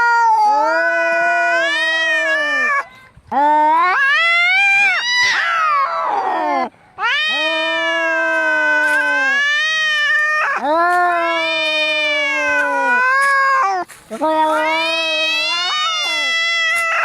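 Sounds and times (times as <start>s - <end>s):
cat yowling: 0.0s - 17.0s.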